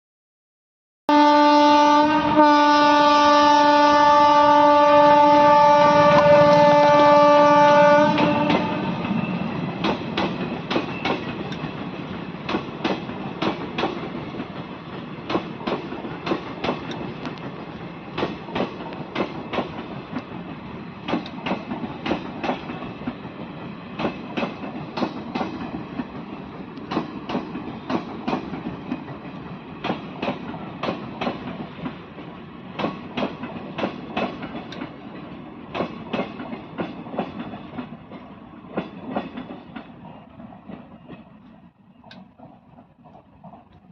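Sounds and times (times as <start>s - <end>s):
train wheels clicking over rail joints: 8.1s - 43.9s.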